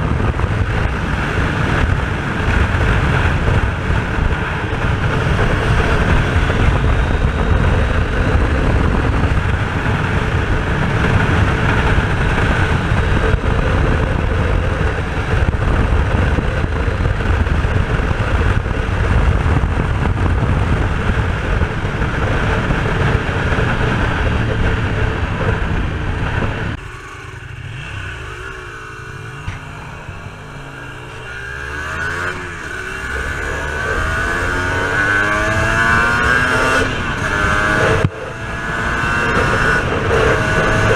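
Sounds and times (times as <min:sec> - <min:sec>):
motorcycle engine: 0:00.0 - 0:40.9
wind noise on microphone: 0:00.0 - 0:40.9.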